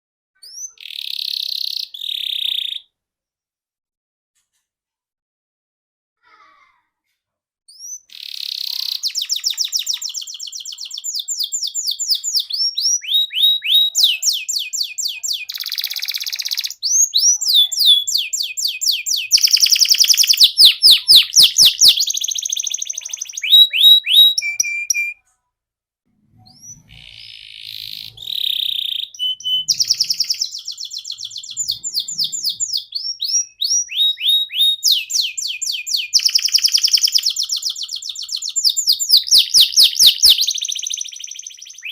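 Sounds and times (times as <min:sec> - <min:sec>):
canary singing trills: 0:00.4 - 0:02.9, 0:07.7 - 0:25.2, 0:26.4 - 0:41.9.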